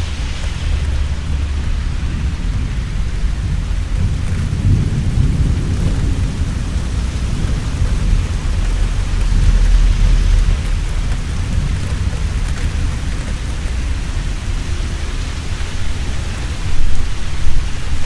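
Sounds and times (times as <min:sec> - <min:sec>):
heavy rain falling: 0:00.0 - 0:18.0
thunder rumbling: 0:00.0 - 0:18.0.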